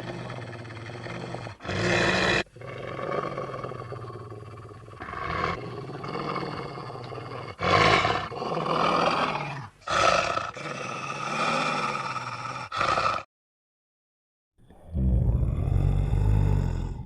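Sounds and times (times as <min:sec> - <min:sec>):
beastly roars and snarls: 0:00.0 - 0:13.3, 0:14.7 - 0:17.0.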